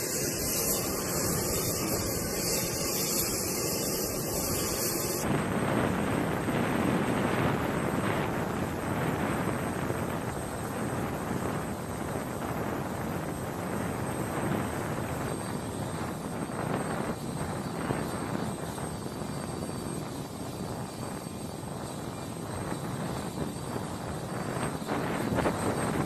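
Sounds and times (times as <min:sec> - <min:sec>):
helicopter engines and rotors: 0:00.0 - 0:26.0.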